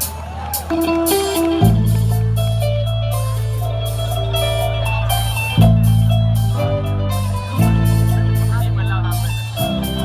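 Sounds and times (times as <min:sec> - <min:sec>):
drums: 0:00.0 - 0:10.0
plucked string melody: 0:00.7 - 0:10.0.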